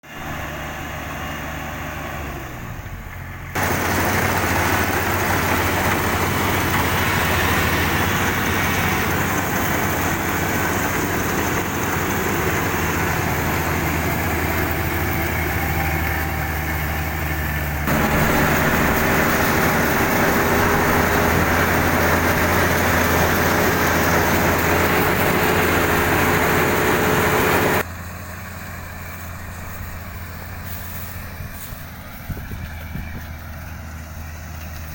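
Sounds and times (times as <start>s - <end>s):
combine harvester running: 0.0s - 34.9s.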